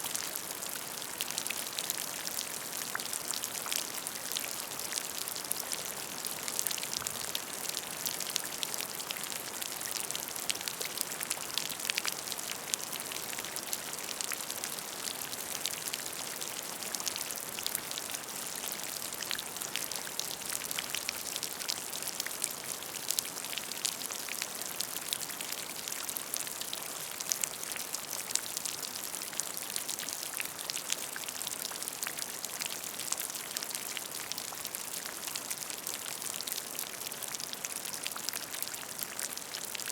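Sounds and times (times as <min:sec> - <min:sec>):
rain falling on puddle: 0:00.0 - 0:39.9.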